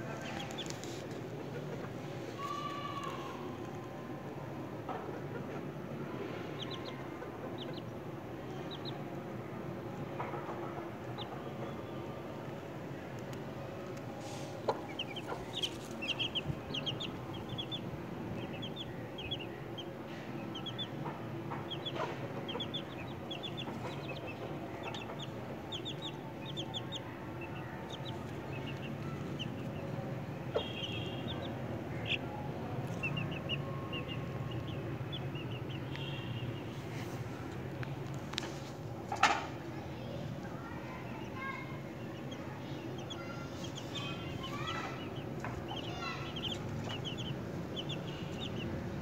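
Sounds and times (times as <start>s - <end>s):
chicks peeping: 0.0s - 49.0s
low background hum: 0.0s - 49.0s.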